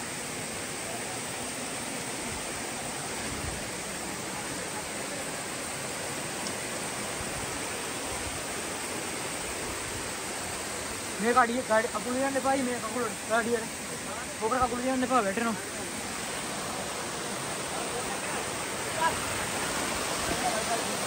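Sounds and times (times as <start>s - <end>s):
stream cascading over rocks: 0.0s - 21.0s.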